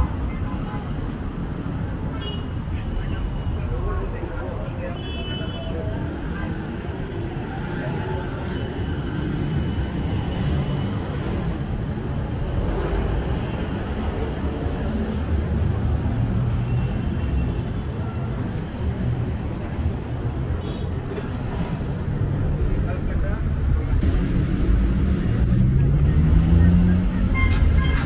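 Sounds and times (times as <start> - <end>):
city street traffic rumble: 0.0 - 28.0.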